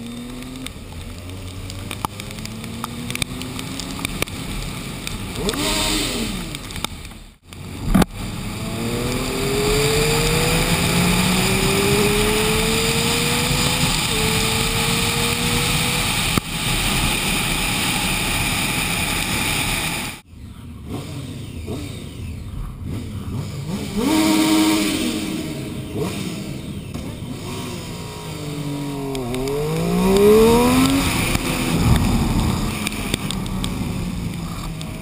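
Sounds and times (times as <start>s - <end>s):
wind and wet road rushing: 0.0s - 20.2s, 24.0s - 35.0s
motorcycle engine accelerating: 0.0s - 35.0s.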